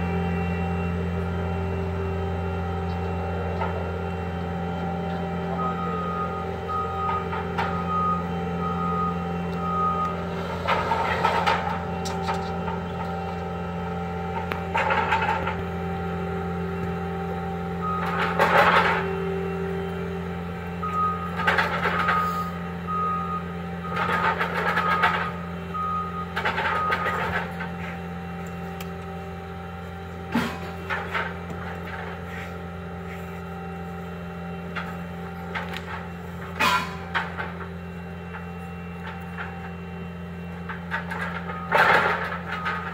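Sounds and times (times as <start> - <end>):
loader engine running: 0.0 - 42.9
reversing alarm beeping: 0.0 - 42.9.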